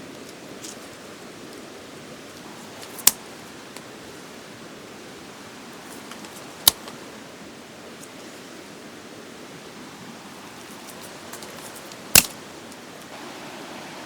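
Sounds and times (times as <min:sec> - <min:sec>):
wood fire hissing: 0:00.0 - 0:14.0.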